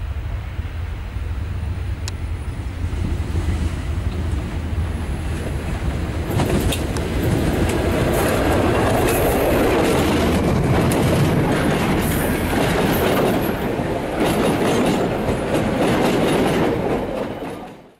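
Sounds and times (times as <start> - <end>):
diesel locomotive passing: 0.0 - 17.9
freight train rumbling: 0.0 - 17.9
wheels clacking over rail joints: 3.0 - 17.9.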